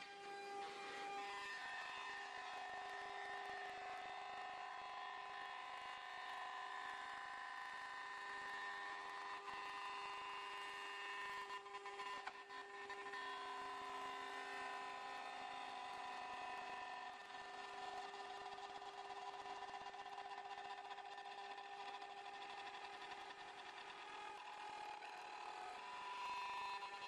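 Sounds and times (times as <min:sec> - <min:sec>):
router spindle whine: 0:00.0 - 0:27.0.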